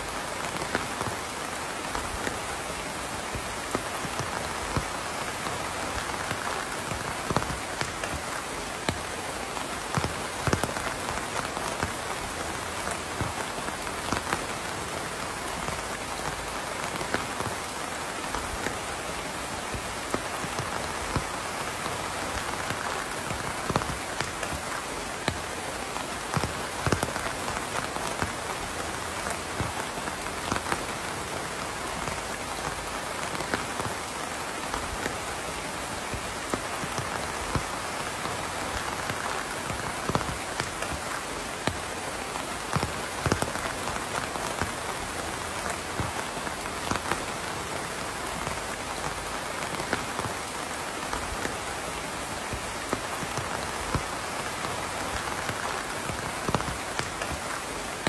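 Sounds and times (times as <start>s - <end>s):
raindrops ticking on surface: 0.0s - 58.0s
steady rain hissing: 0.0s - 58.0s.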